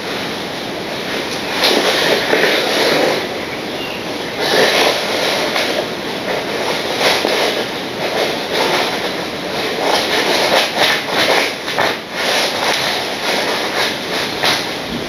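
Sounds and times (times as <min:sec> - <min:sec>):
model train rattling on track: 0:00.0 - 0:14.9.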